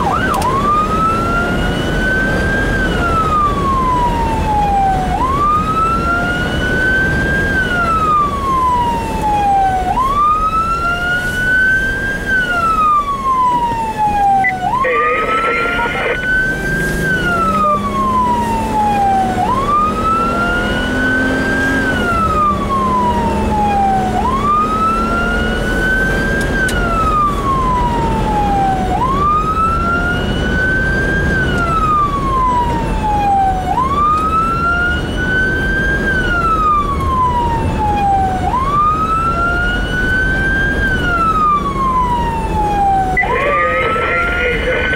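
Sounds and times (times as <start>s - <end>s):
higher siren tone: 0.0s - 44.9s
siren wailing: 0.0s - 44.9s.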